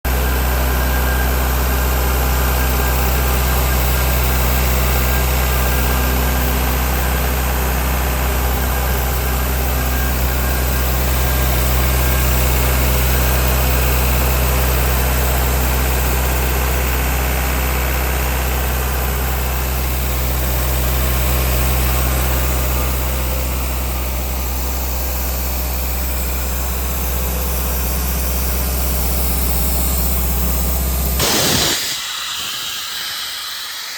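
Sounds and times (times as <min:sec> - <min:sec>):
diesel engine running: 0:00.1 - 0:31.5.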